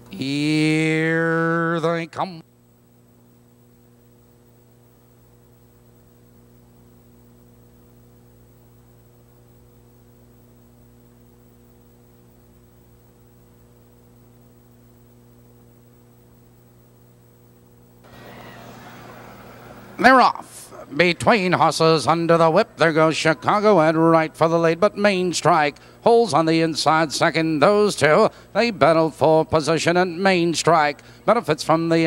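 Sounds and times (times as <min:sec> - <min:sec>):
faint electrical hum: 0:00.0 - 0:32.0.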